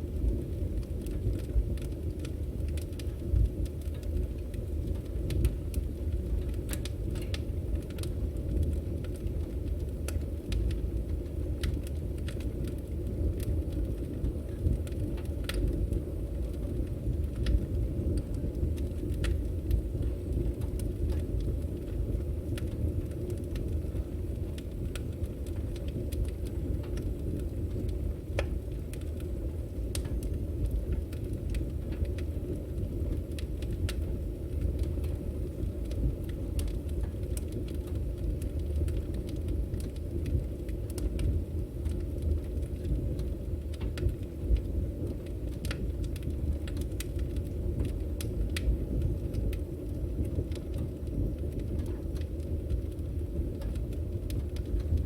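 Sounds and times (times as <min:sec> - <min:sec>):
fire rumbling: 0:00.0 - 0:55.0
firewood crackling and popping: 0:00.0 - 0:55.0.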